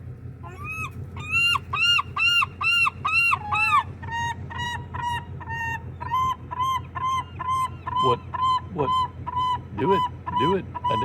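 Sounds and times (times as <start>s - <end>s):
gulls calling: 0.4s - 11.0s.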